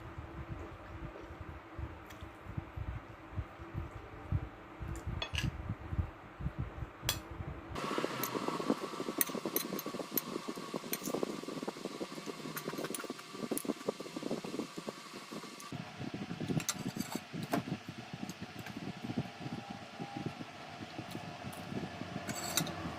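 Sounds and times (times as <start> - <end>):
steady mechanical hum: 0.0 - 22.9.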